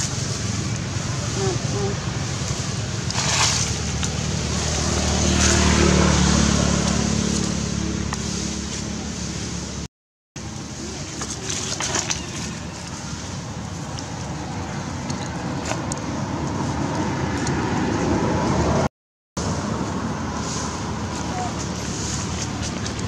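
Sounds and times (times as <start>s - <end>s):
vehicle engine running: 0.0s - 17.0s, 19.4s - 23.0s.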